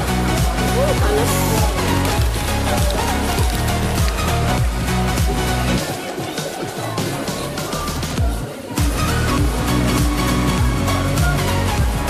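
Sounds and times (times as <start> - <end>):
electronic music: 0.0 - 12.0
steady kick-drum beat: 0.0 - 12.0.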